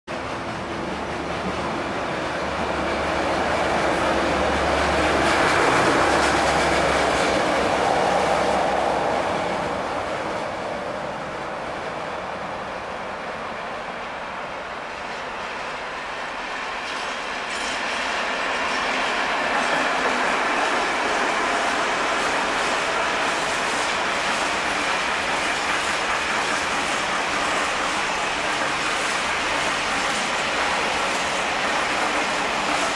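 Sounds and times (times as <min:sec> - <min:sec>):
diesel locomotive engines humming: 0:00.1 - 0:32.9.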